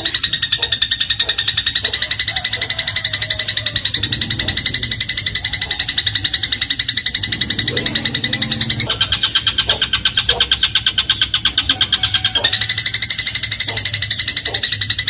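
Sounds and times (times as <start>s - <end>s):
sparrow chattering chirps: 0.0s - 15.0s.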